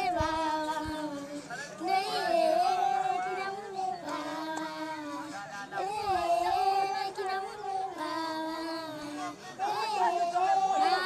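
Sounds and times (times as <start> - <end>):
girls singing unaccompanied: 0.0 - 11.0.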